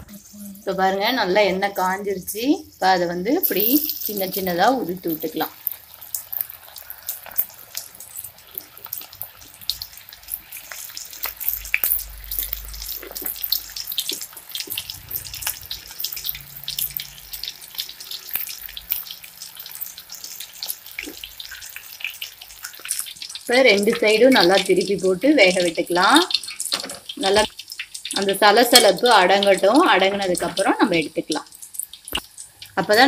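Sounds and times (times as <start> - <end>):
batter sizzling in hot oil: 0.0 - 33.0.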